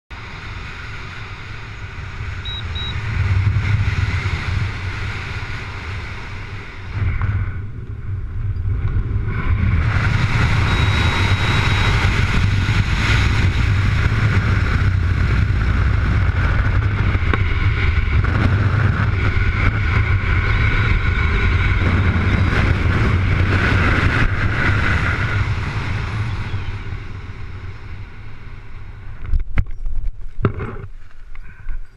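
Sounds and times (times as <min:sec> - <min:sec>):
wind rushing over microphone: 0:00.1 - 0:31.9.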